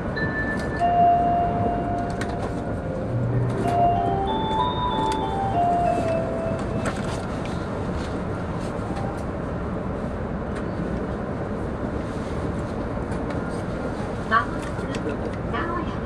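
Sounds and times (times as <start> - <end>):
train cabin rumble: 0.0 - 16.0.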